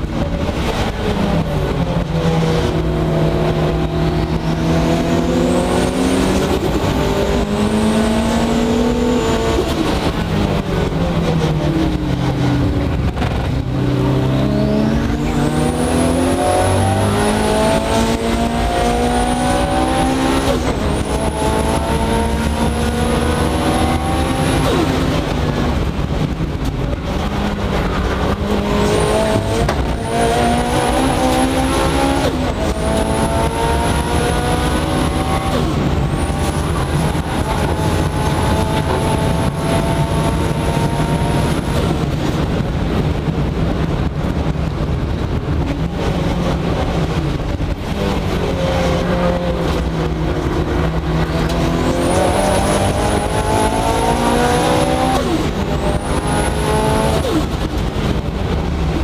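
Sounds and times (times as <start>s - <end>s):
high turbo whine: 0.0s - 59.0s
race car engine accelerating: 0.0s - 59.0s.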